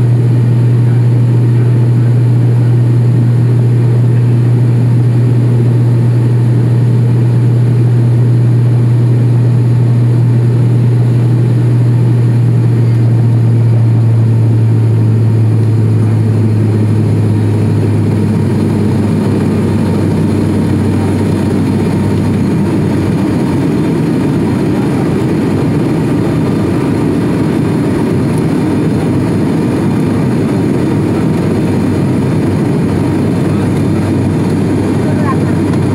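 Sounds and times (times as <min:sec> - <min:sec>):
airplane engines droning: 0:00.0 - 0:35.9
deep propeller hum: 0:00.0 - 0:35.9.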